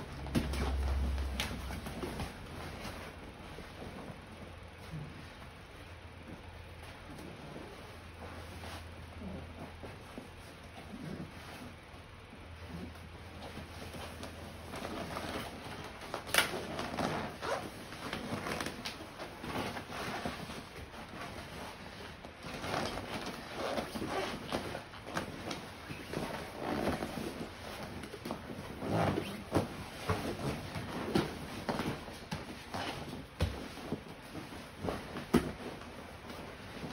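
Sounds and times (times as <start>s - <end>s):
scuffing and rustling on mats: 0.0s - 36.9s.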